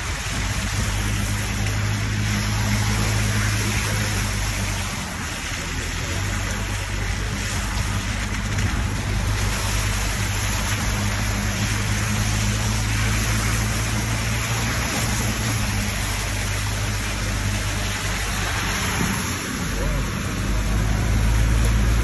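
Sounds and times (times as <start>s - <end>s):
car engine running: 0.0s - 22.0s
water splashing: 0.0s - 22.0s.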